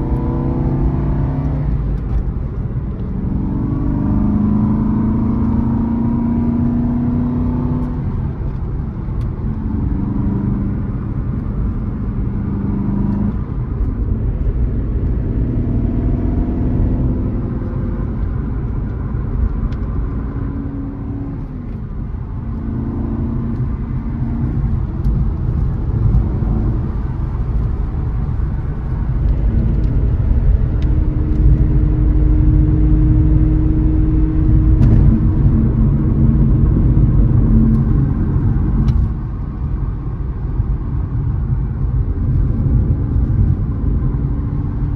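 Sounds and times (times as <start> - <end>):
car engine from inside cabin: 0.0 - 44.9.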